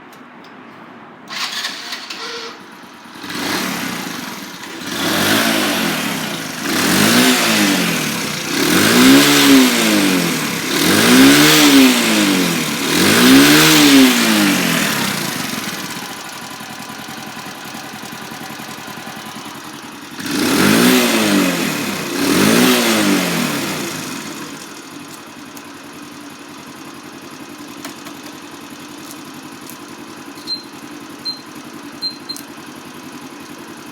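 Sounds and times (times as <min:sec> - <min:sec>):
motorcycle engine revving and idling: 0:01.3 - 0:33.9.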